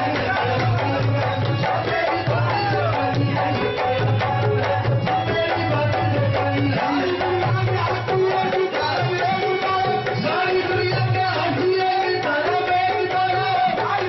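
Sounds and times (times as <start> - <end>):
tabla playing a rhythm: 0.0 - 14.0.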